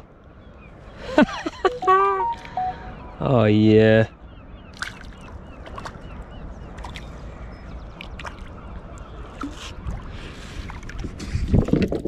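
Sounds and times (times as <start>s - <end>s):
low rumble of wind and water: 0.0s - 12.0s.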